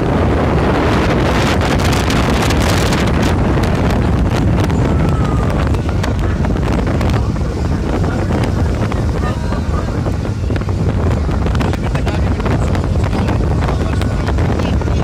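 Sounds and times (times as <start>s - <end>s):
low rush of boat underway: 0.0s - 15.0s
wind buffeting microphone: 0.0s - 15.0s.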